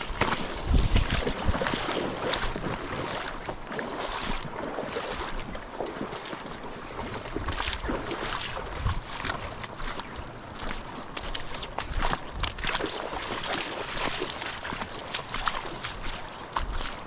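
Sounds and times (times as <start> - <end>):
wind buffeting the microphone: 0.0 - 6.1, 6.7 - 17.0
creek water rushing: 0.0 - 17.0.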